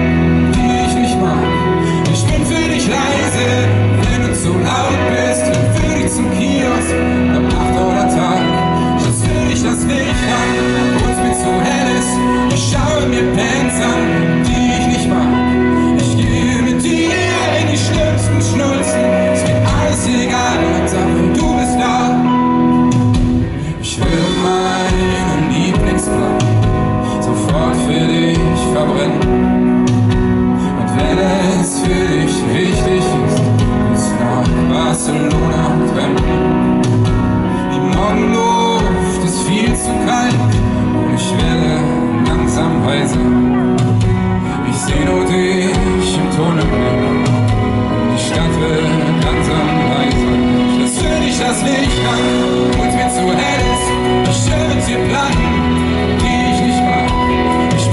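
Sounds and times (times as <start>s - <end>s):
live pop-rock band playing: 0.0s - 57.9s
person singing: 0.0s - 57.9s.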